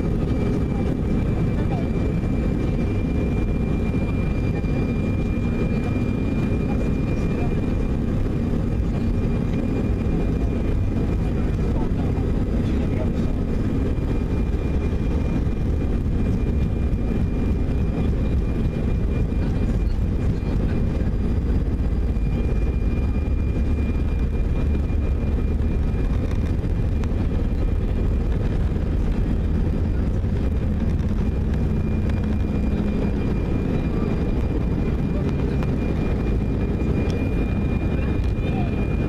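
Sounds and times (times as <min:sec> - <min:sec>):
jet engine rumble in cabin: 0:00.0 - 0:39.0.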